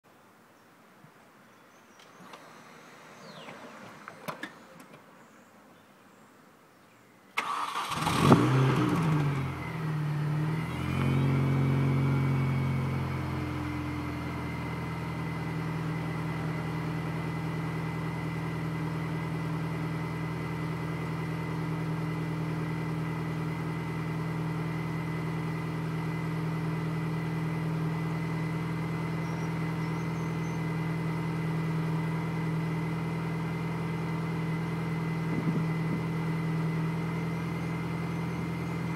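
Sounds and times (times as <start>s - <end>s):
car engine starting and idling: 7.4s - 38.9s.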